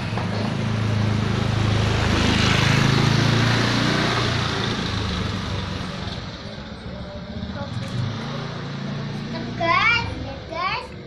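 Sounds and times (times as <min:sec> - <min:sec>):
vehicle engine passing by: 0:00.0 - 0:10.8.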